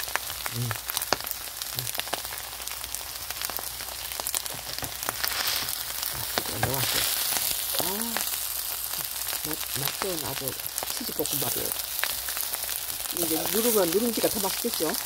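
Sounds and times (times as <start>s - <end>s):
rice sizzling in a hot pan: 0.0s - 15.0s.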